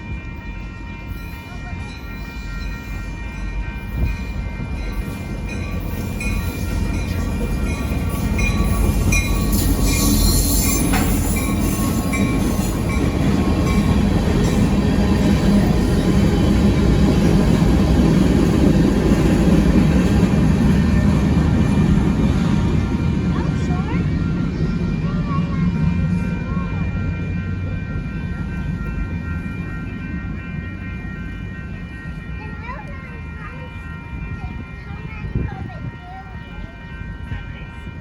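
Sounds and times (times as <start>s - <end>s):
crossing bell ringing: 0.0s - 38.0s
train rumbling past: 0.0s - 38.0s.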